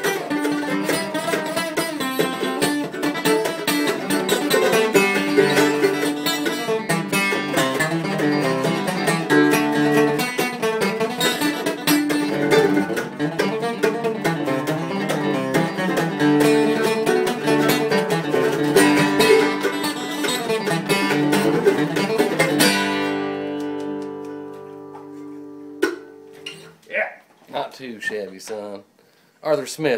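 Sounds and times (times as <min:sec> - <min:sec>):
mandolin: 0:00.0 - 0:26.8
acoustic guitar: 0:00.0 - 0:27.1.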